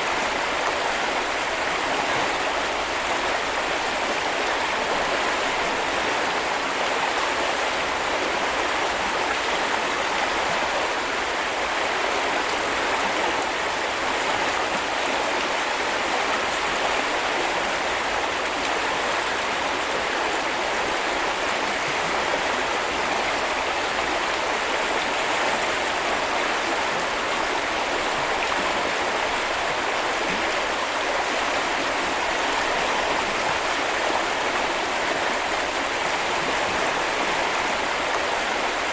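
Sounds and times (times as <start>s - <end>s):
brook flowing over stones: 0.0s - 38.9s.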